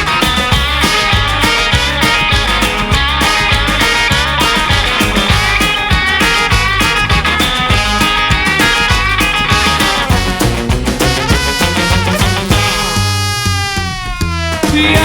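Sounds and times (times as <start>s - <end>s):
country rock guitar over a beat: 0.0s - 15.0s.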